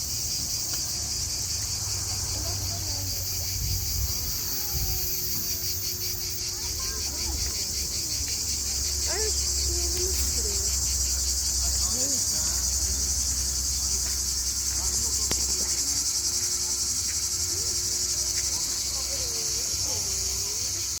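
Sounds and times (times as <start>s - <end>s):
chirring insects: 0.0s - 21.0s.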